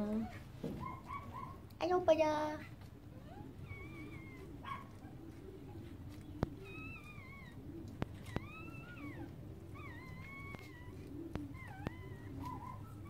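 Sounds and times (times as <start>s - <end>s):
puppies squeaking and whining: 0.0s - 1.7s, 2.4s - 13.0s.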